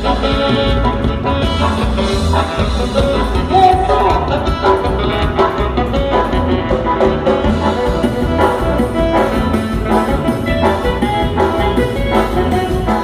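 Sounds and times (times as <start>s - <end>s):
band playing dance tune: 0.0s - 13.0s
bass: 0.0s - 13.0s
drums: 0.0s - 13.0s.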